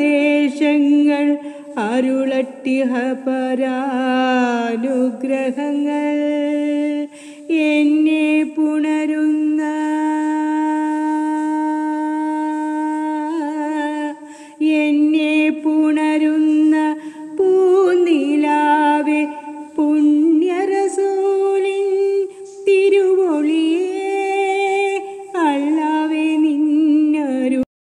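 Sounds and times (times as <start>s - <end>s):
woman singing unaccompanied: 0.0s - 27.7s.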